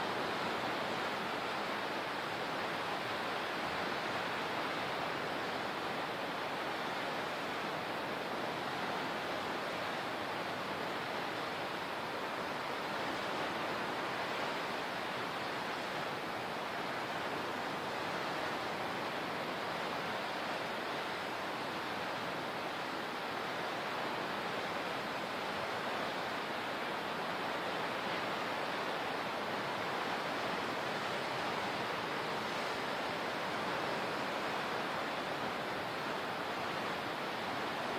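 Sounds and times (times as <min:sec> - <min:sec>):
rushing water: 0:00.0 - 0:37.9.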